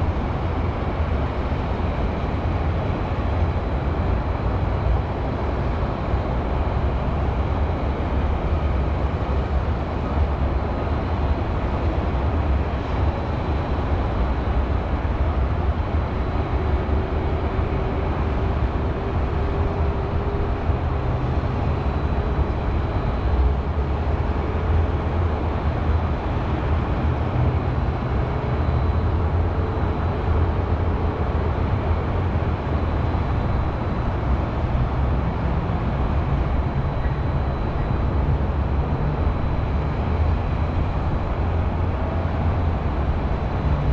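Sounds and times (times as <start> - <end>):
distant highway traffic rumble: 0.0 - 43.9.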